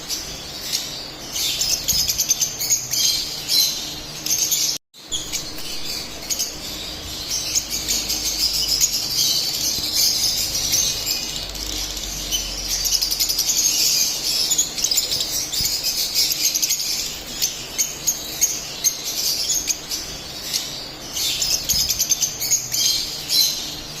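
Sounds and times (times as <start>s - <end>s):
lovebirds chirping: 0.0s - 24.0s.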